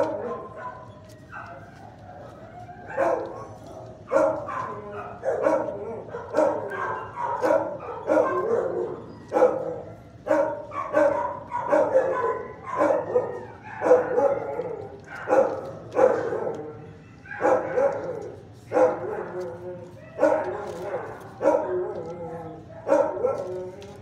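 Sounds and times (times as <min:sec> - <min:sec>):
dogs barking: 0:00.0 - 0:24.0.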